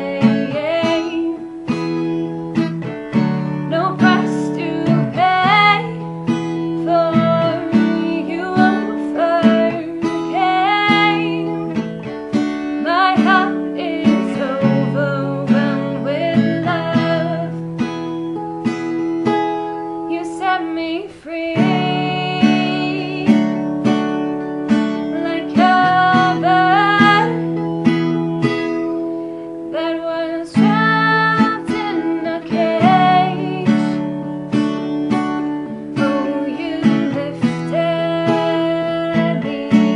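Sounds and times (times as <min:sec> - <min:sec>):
woman singing: 0:00.0 - 0:18.2, 0:19.7 - 0:39.9
acoustic guitar strumming: 0:00.0 - 0:39.9.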